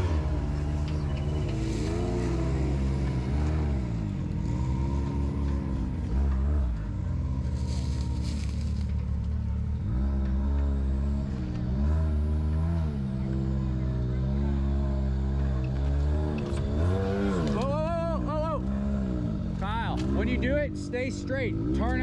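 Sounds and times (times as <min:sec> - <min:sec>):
utv engine revving: 0:00.0 - 0:22.0.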